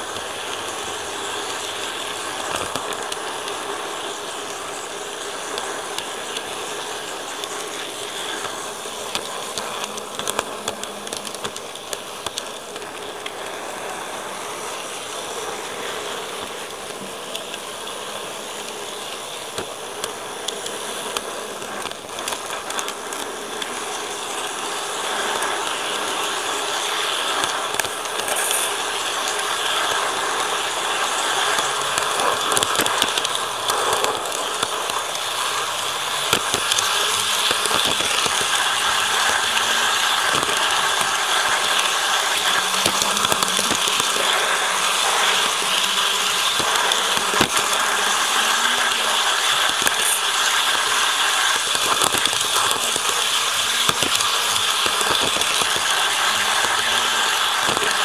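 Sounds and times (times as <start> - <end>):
model train running on track: 0.0 - 58.0.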